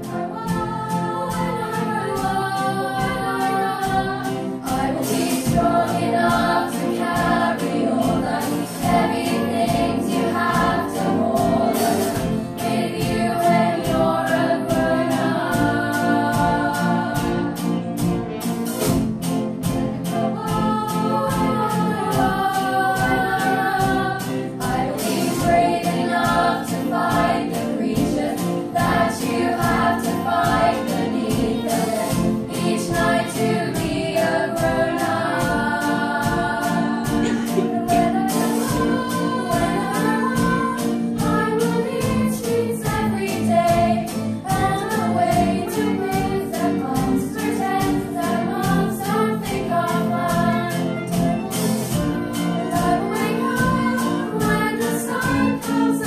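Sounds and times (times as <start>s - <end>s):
girls' choir singing: 0.0s - 56.0s
instrumental accompaniment: 0.0s - 56.0s.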